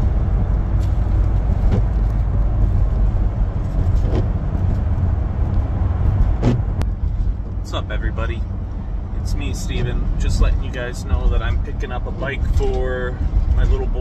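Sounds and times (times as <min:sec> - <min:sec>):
road and engine rumble in car: 0:00.0 - 0:14.0.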